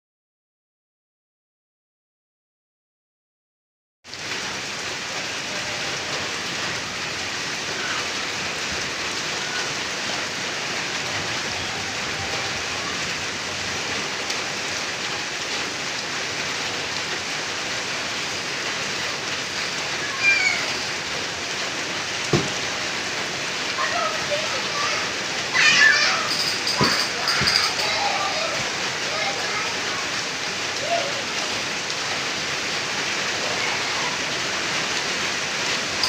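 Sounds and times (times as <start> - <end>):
light drizzling rain: 4.1 - 36.0.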